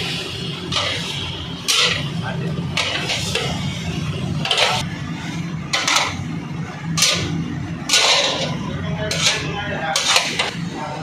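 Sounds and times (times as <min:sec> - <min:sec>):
steady low hum: 0:00.0 - 0:11.0
metal spatula scraping pot: 0:00.7 - 0:03.6, 0:04.4 - 0:10.6.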